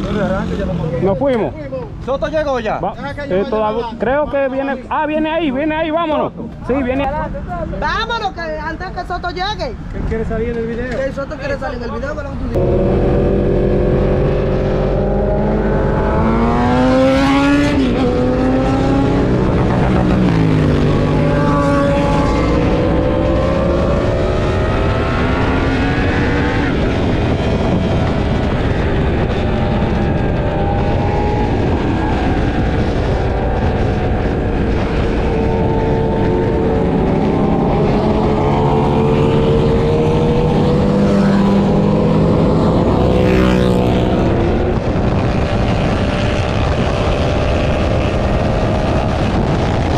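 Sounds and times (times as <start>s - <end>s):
motorcycle engines revving: 0.0s - 8.8s, 9.4s - 49.9s.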